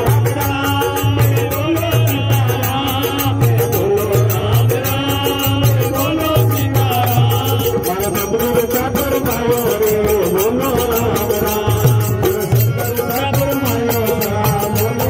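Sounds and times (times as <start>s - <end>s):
harmonium: 0.0s - 15.0s
man singing: 0.0s - 15.0s.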